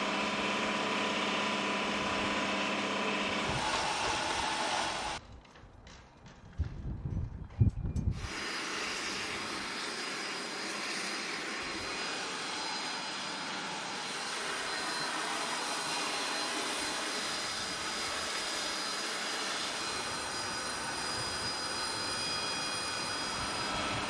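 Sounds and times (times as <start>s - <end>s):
jet turbine running: 0.0s - 5.2s, 8.2s - 24.0s.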